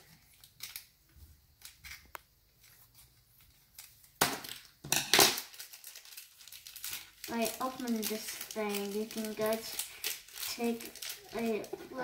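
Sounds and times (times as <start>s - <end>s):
plastic bag crinkling: 1.6s - 12.0s.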